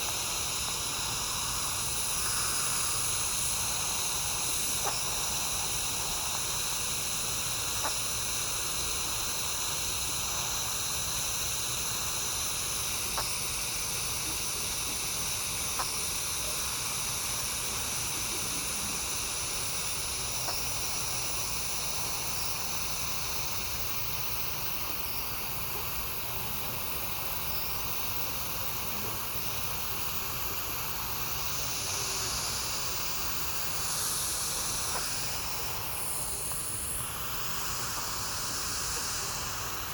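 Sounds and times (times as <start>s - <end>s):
faint high whining tones: 0.0s - 39.9s
steady hiss: 0.0s - 39.9s.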